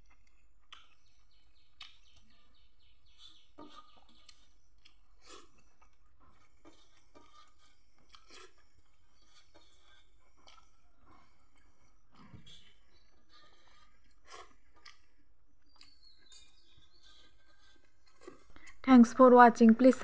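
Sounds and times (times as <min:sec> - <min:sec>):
faint chewing: 0:00.0 - 0:20.0.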